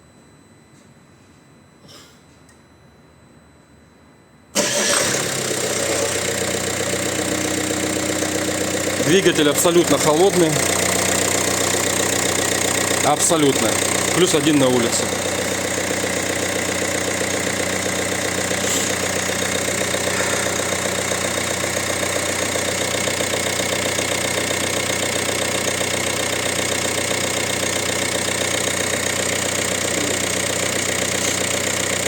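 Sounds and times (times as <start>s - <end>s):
diesel engine idling: 4.6s - 32.0s.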